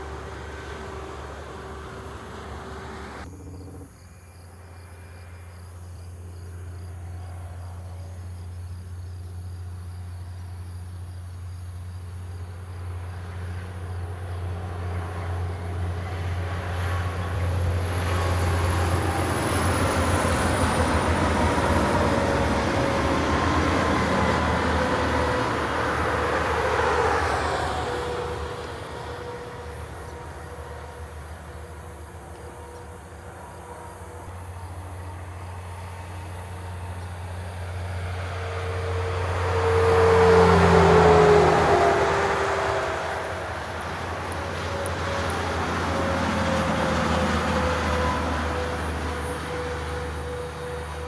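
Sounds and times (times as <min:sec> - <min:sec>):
trucks passing on highway: 0:00.0 - 0:04.0, 0:06.4 - 0:51.0.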